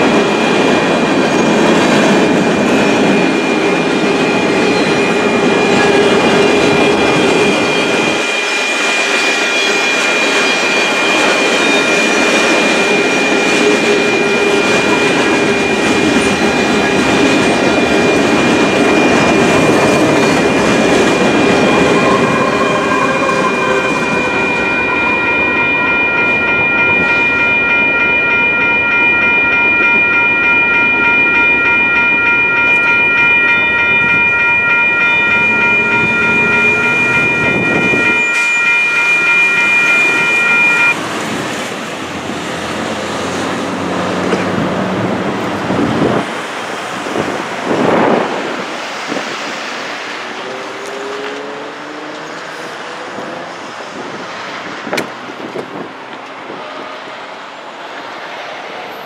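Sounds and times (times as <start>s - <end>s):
crossing bells ringing: 0.0s - 54.8s
train wheels on rails: 0.0s - 59.0s.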